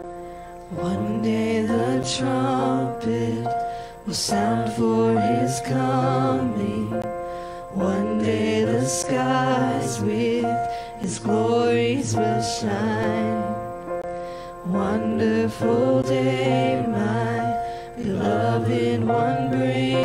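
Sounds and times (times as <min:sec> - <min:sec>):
electric keyboard: 0:00.0 - 0:20.0
group singing a hymn: 0:00.7 - 0:13.7, 0:14.6 - 0:20.0.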